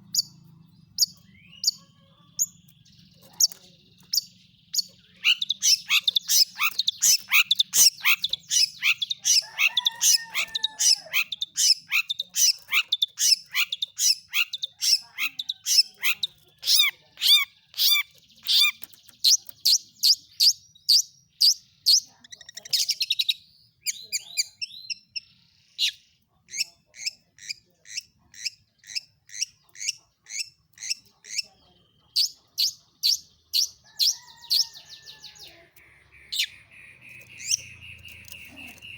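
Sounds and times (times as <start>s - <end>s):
bird rapid high chirps: 0.0s - 38.9s.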